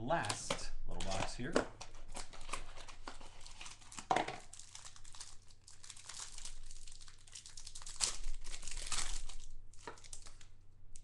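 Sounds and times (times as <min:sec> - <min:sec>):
plastic wrapper crinkling: 0:00.1 - 0:11.0.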